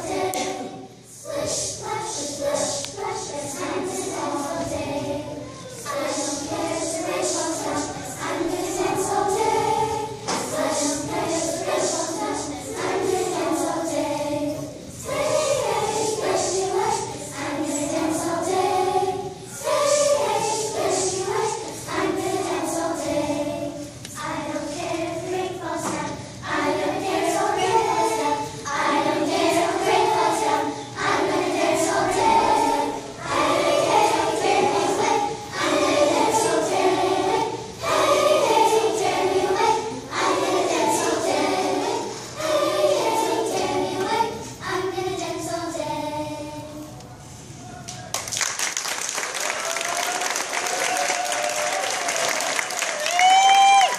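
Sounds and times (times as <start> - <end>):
children's choir singing: 0.0 - 47.0.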